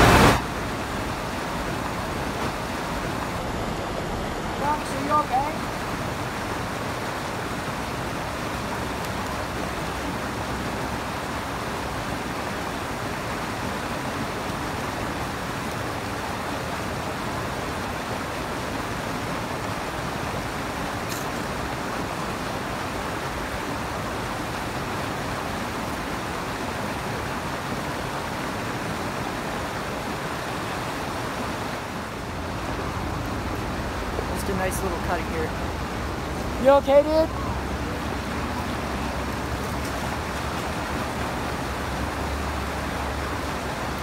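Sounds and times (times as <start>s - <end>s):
creek water over rocks: 0.0s - 44.0s.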